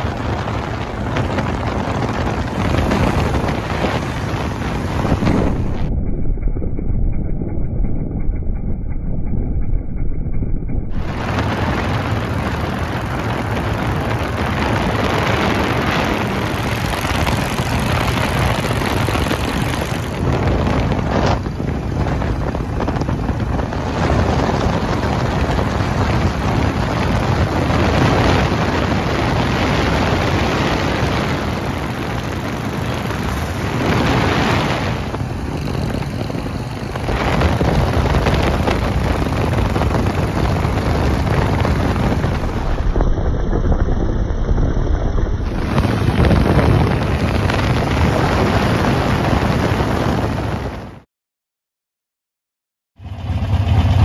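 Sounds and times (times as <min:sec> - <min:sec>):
road noise: 0:00.0 - 0:07.2, 0:10.8 - 0:51.0, 0:53.0 - 0:54.0
motorcycle engine: 0:00.0 - 0:51.0, 0:53.0 - 0:54.0
wind rushing over microphone: 0:00.0 - 0:51.1.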